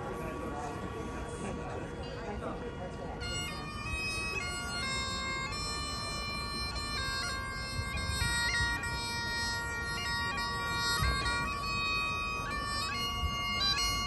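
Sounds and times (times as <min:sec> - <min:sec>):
bagpipe tune over drone: 0:02.0 - 0:14.0.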